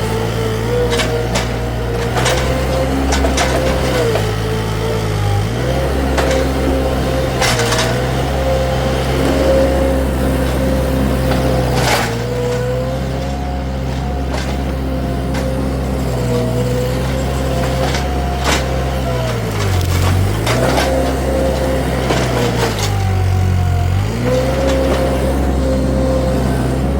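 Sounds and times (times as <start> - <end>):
skid steer engine running: 0.0 - 26.9.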